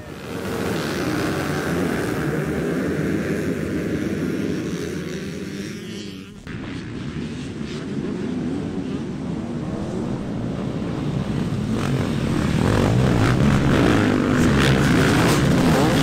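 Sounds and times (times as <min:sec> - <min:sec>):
motocross bikes accelerating: 0:00.0 - 0:16.0.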